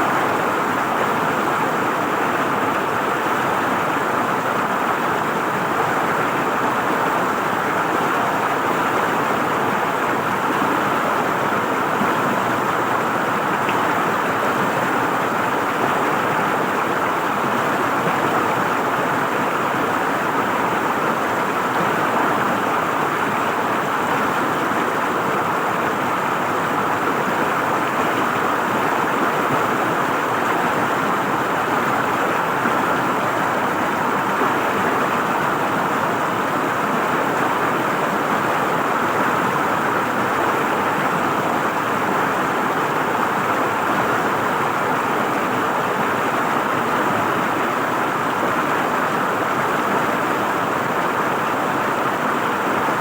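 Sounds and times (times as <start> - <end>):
river water flowing and gurgling: 0.0 - 53.0.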